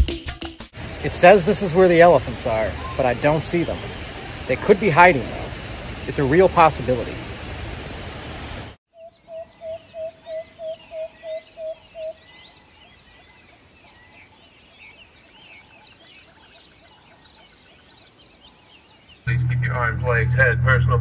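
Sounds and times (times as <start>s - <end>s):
small birds chirping: 1.1s - 6.8s, 8.4s - 19.6s.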